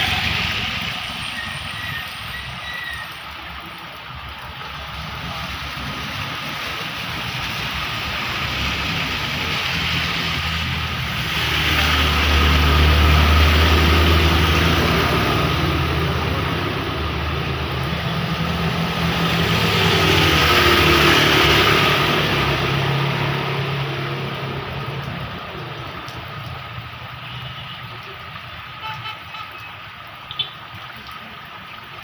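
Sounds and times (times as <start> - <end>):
vehicle engine hum: 0.0 - 30.5
heavy rain hissing: 0.0 - 30.6.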